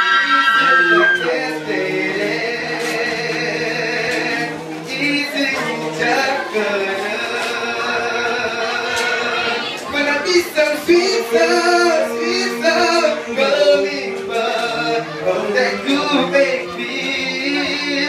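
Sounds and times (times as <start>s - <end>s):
men singing a cappella in harmony: 0.0s - 18.0s.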